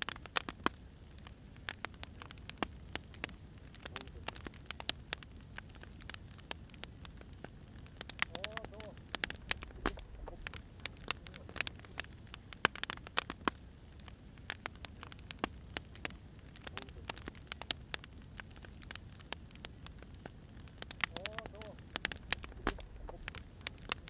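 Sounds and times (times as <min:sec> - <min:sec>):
firewood popping and snapping: 0:00.0 - 0:24.0
low rumble of flames: 0:00.0 - 0:24.0.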